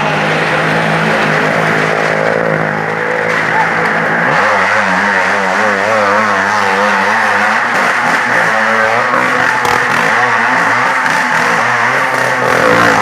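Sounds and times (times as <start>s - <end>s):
car engines revving: 0.0s - 13.0s
motorcycle engines revving: 0.0s - 13.0s.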